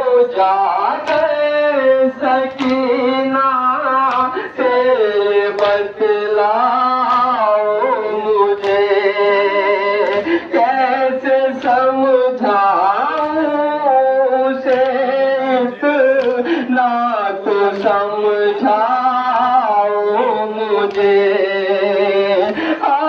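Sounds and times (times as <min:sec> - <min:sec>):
man chanting into microphone: 0:00.0 - 0:23.0.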